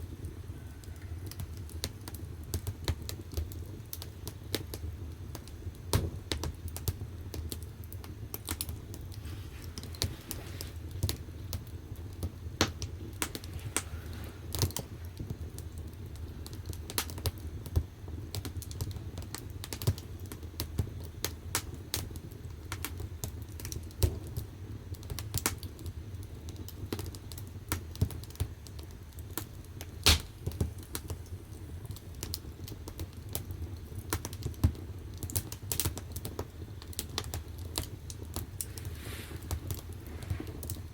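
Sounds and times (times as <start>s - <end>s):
firewood crackling and popping: 0.0s - 40.9s
low fire rumble: 0.0s - 40.9s.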